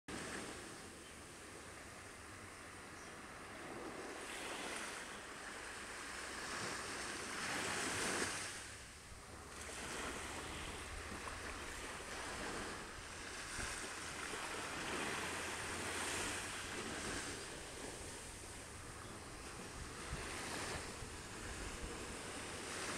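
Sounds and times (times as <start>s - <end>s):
small waves breaking on beach: 0.1s - 22.9s.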